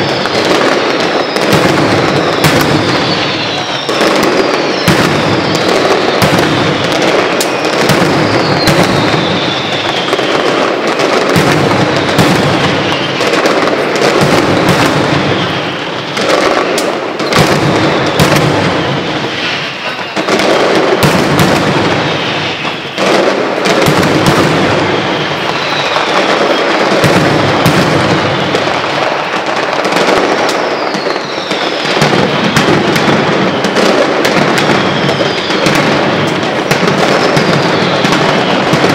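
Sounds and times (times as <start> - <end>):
falling whistles: 0.0 - 38.9
firecracker bangs: 0.0 - 38.9.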